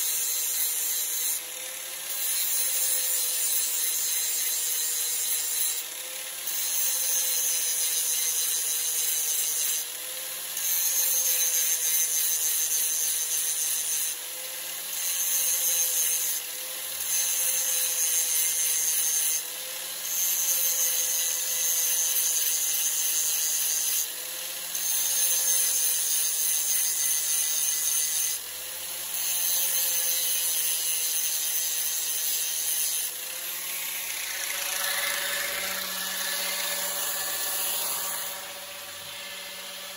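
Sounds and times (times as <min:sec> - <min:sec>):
angle grinder grinding metal: 0:00.0 - 0:39.9
grinder motor running: 0:00.0 - 0:39.9.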